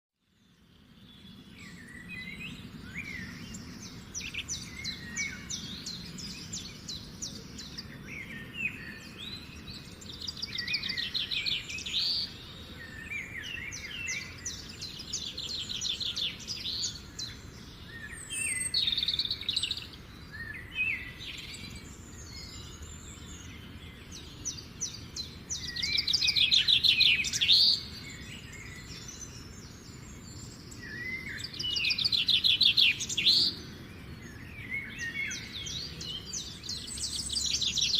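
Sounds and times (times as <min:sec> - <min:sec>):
birds chirping and trilling: 0:00.2 - 0:37.9
faint steady background noise: 0:00.2 - 0:37.9.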